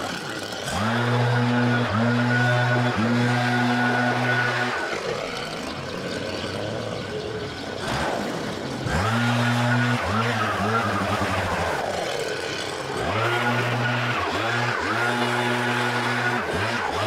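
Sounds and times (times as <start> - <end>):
leaf blower revving: 0.0 - 17.0.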